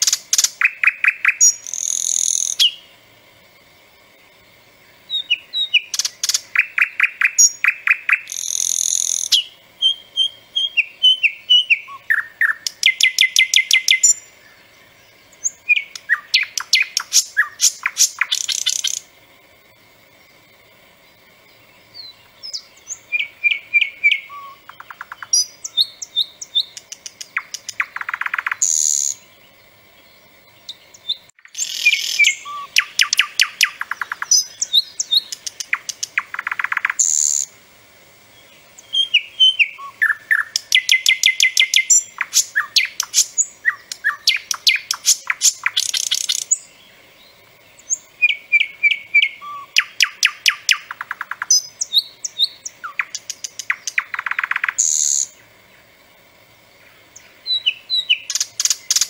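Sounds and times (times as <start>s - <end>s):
nightingale singing: 0.0s - 37.6s, 38.2s - 59.0s.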